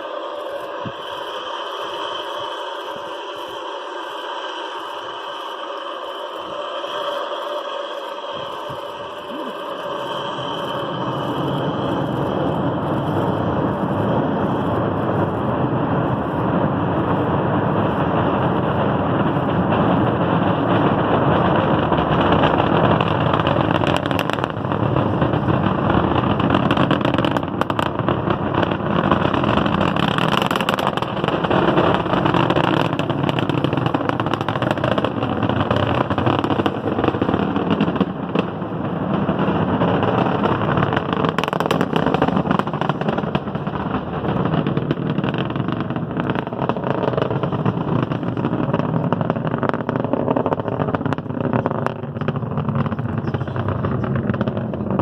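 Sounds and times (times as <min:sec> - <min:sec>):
rocket engine roar with crackles: 0:00.0 - 0:55.0.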